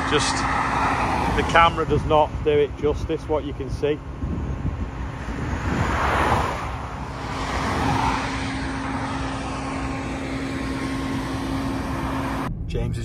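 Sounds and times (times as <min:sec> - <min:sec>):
combine harvester engine hum: 0:00.0 - 0:12.5
vehicles swishing past: 0:00.0 - 0:12.5.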